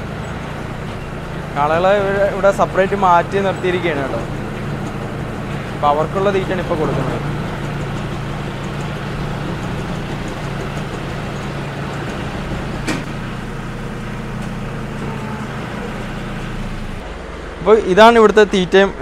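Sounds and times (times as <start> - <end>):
feed mixer wagon running: 0.0 - 17.0.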